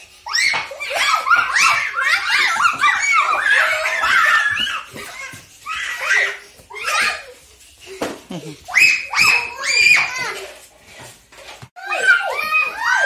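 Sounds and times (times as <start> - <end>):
children squealing and laughing: 0.0 - 10.8, 11.8 - 13.0.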